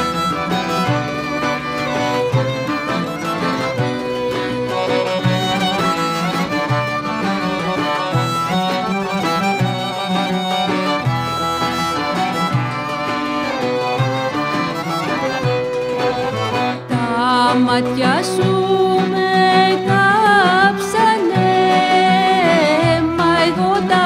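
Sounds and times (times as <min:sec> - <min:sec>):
accordion: 0:00.0 - 0:24.0
plucked oud: 0:00.0 - 0:24.0
violin melody: 0:00.0 - 0:24.0.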